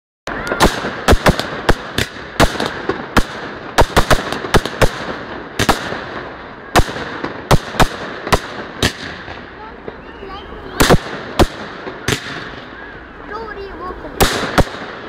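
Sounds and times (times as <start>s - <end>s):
fireworks bangs: 0.3s - 15.0s.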